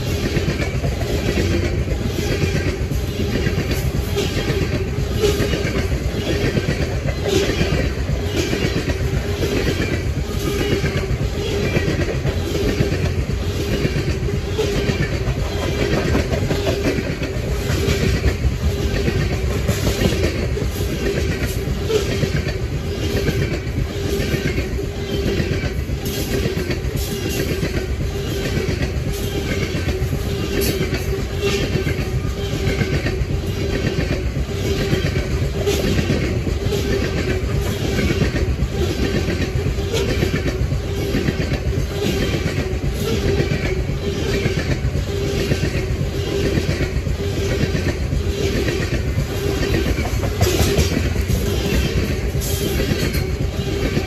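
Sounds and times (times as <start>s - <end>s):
freight train rumble: 0.0s - 54.0s
train wheels clicking over rail joints: 0.0s - 54.0s.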